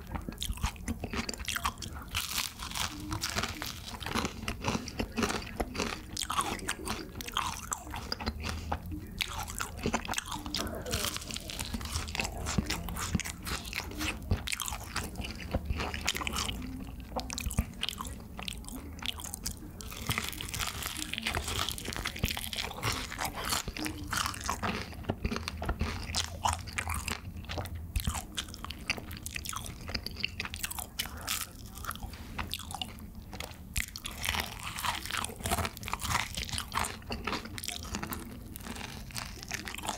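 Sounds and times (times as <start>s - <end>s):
fried chicken crunching when bitten: 0.0s - 39.9s.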